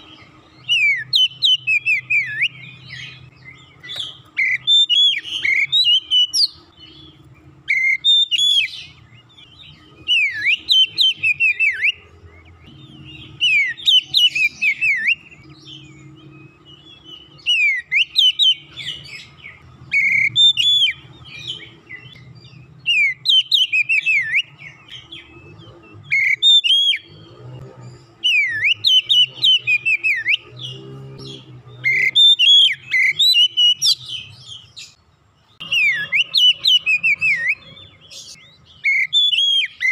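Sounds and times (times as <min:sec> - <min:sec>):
bird singing whistled phrases: 0:00.0 - 0:27.2, 0:28.2 - 0:35.0, 0:35.6 - 0:39.9.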